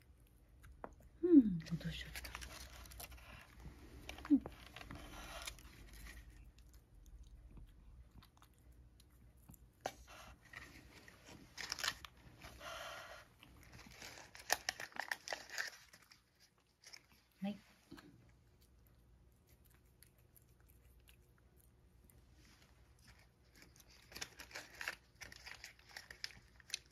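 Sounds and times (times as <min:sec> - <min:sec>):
cat crunching dry treats: 0:00.0 - 0:17.4, 0:18.0 - 0:26.9.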